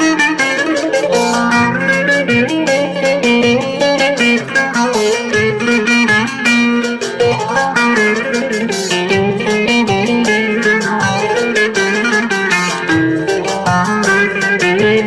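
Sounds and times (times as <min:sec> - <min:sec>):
plucked electric saz melody: 0:00.0 - 0:15.0
steady backing beat: 0:00.0 - 0:15.0.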